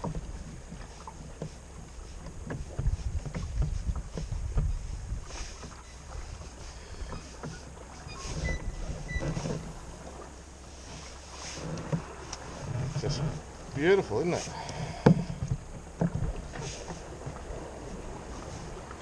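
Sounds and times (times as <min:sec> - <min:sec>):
small knocks and splashes: 0:00.0 - 0:08.4, 0:09.2 - 0:19.0
water lapping against hull: 0:00.0 - 0:19.0
wind rumbling on microphone: 0:00.0 - 0:19.0.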